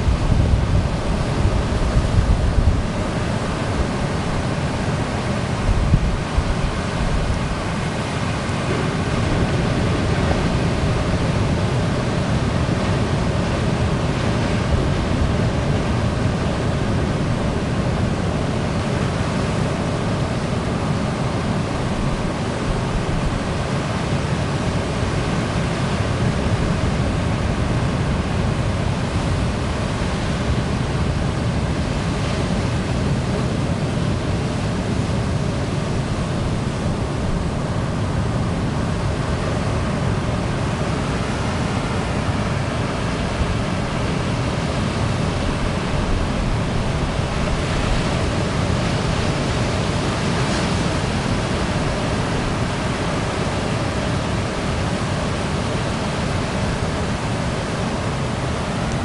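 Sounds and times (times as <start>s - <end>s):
ocean surf breaking: 0.0s - 59.0s.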